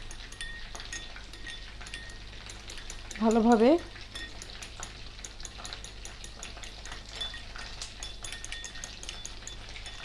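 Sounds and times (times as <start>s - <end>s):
spoon clinking against bowl: 0.0s - 10.0s.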